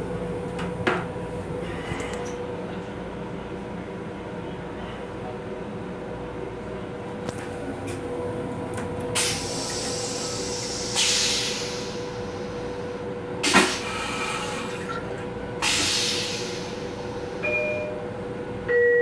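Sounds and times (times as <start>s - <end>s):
train running noise with hum: 0.0s - 19.0s.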